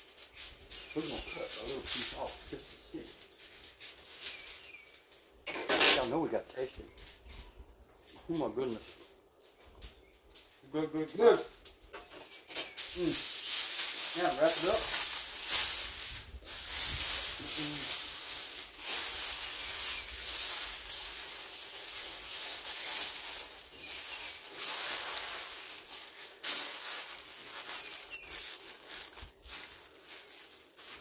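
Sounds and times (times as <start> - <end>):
aluminium foil crinkling: 0.0 - 31.0.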